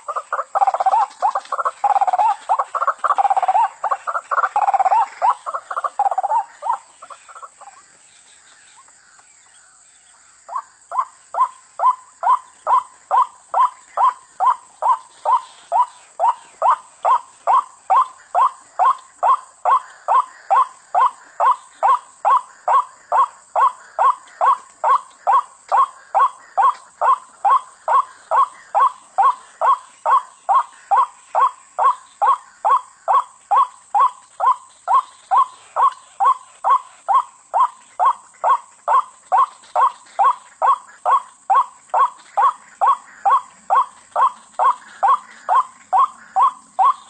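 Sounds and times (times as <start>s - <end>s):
bird harsh repeated call: 0.0s - 7.9s, 10.5s - 47.0s.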